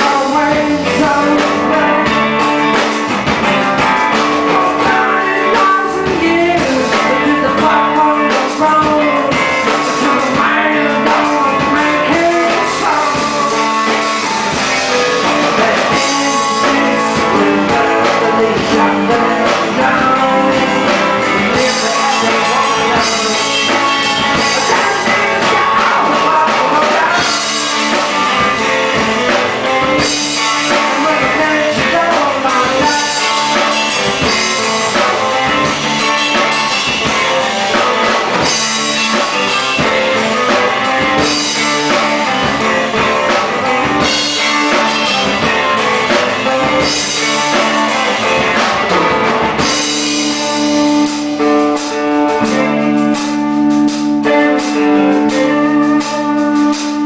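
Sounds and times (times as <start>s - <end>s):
man singing: 0.0s - 53.4s, 54.1s - 57.0s
live blues-rock band: 0.0s - 57.0s.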